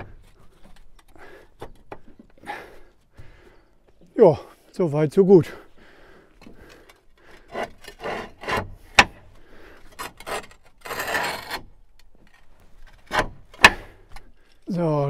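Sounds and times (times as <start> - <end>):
roof tiles scraping: 0.0 - 3.5, 5.8 - 14.7.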